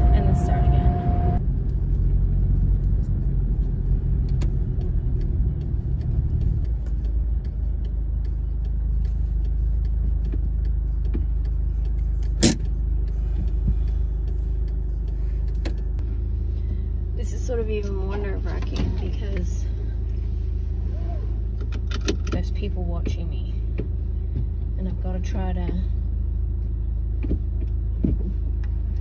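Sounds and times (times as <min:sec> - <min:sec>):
car engine and road rumble: 0:00.0 - 0:29.0
car engine idling: 0:00.0 - 0:29.0.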